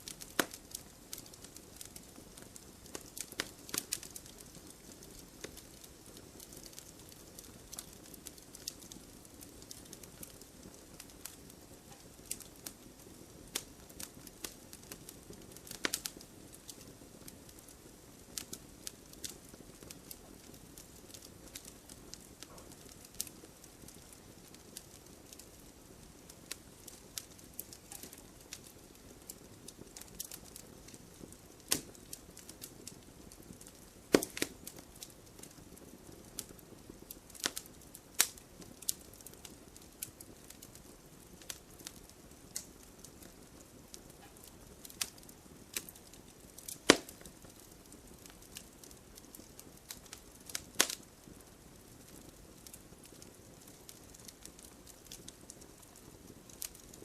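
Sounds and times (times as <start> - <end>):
soft steady fire hiss: 0.0 - 57.0
wood fire crackling and popping: 0.0 - 57.0.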